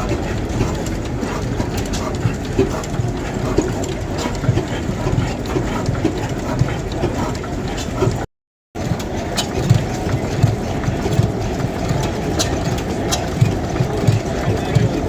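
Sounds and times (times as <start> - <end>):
vintage engine running: 0.0 - 15.0.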